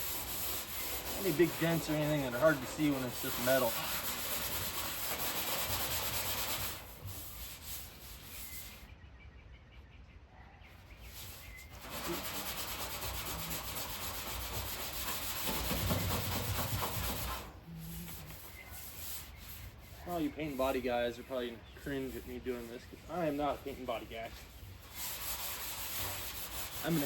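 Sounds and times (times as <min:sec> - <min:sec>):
scrubbing pad rubbing on steel: 0:00.0 - 0:08.8, 0:11.1 - 0:27.0.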